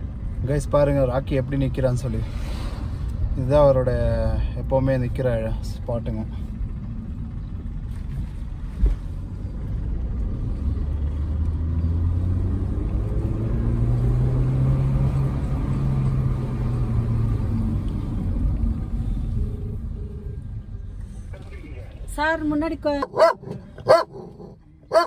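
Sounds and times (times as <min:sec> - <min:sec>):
car engine drone: 0:00.0 - 0:25.0
road rumble: 0:00.0 - 0:25.0.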